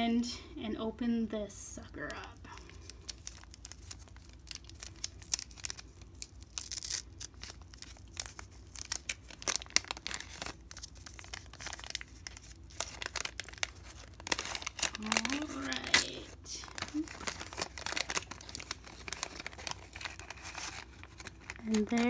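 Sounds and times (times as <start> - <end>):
waxed paper wrapper crinkling: 1.9 - 22.0.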